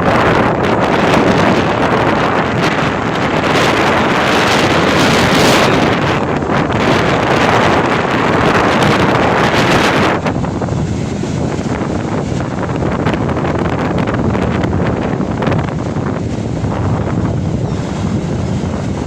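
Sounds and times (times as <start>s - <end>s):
sea surf breaking: 0.0s - 19.0s
wind buffeting microphone: 0.0s - 19.0s.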